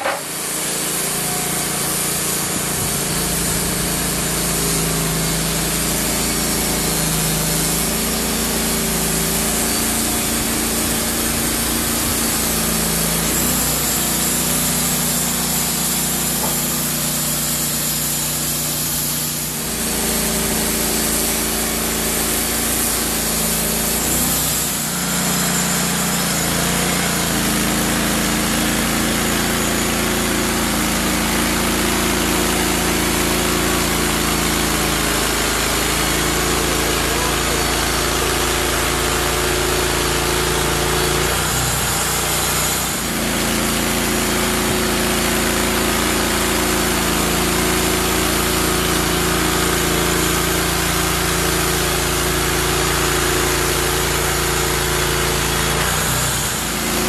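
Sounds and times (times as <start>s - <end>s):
bandsaw mill engine running: 0.0s - 57.0s.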